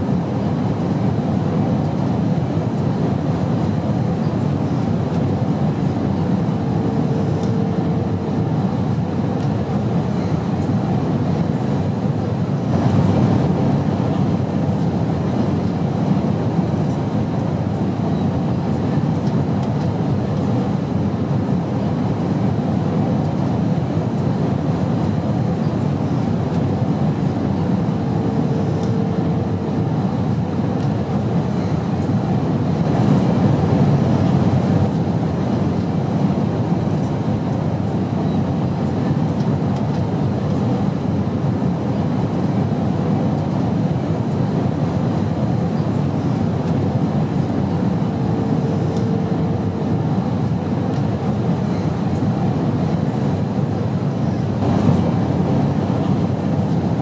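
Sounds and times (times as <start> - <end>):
airplane engine rumble: 0.0 - 57.0.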